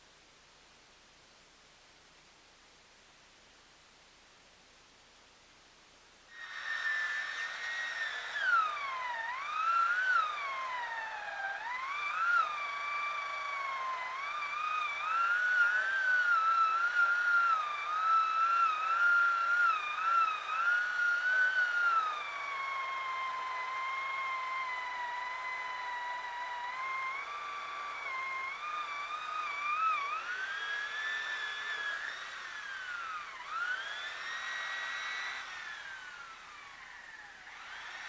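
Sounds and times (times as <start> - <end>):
chainsaw cutting: 6.4 - 38.0.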